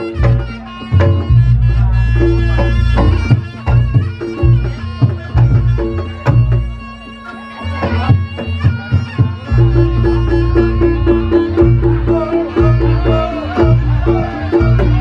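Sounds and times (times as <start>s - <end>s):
drum beats: 0.0s - 15.0s
shawm playing melody: 0.0s - 15.0s.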